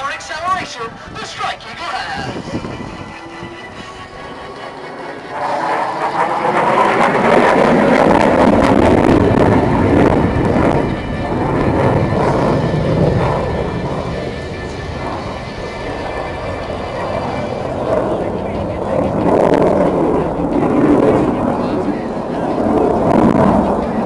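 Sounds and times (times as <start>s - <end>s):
fighter jet flyby rushing: 0.0s - 24.0s.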